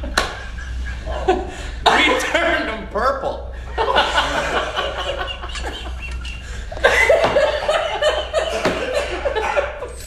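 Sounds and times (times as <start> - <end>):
group of people laughing: 0.0 - 2.6, 3.6 - 10.0.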